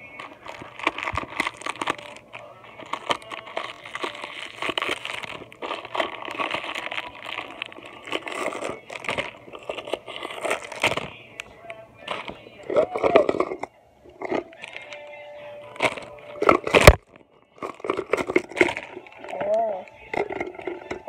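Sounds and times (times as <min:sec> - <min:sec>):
plastic wrapper crinkling: 0:00.0 - 0:21.0
hard plastic parts clicking: 0:00.2 - 0:15.1, 0:15.8 - 0:21.0.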